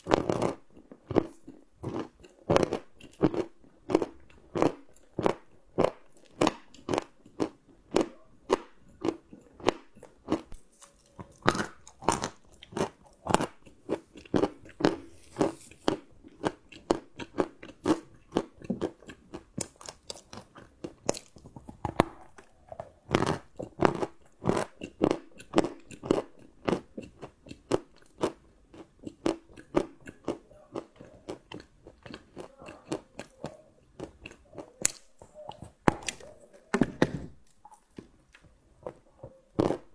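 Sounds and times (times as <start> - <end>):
chewing crunchy chocolate: 0.0 - 39.9.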